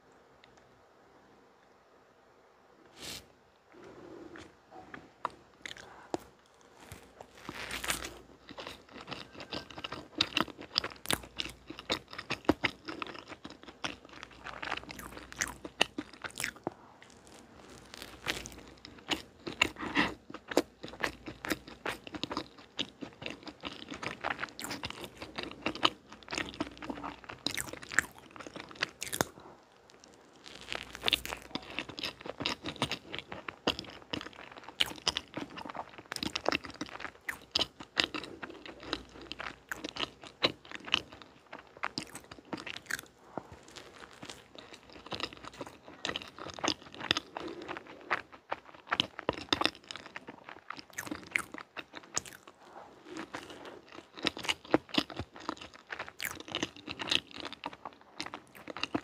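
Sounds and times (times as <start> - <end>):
biting and chewing bread: 5.6 - 59.0.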